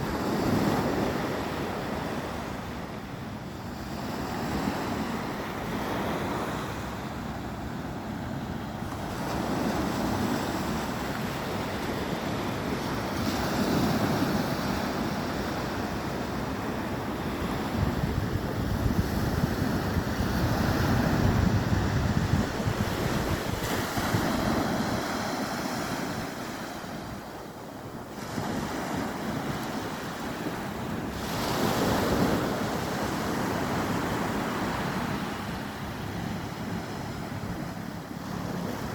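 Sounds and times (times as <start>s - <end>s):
sea waves breaking: 0.0s - 38.9s
wind buffeting microphone: 4.3s - 38.9s.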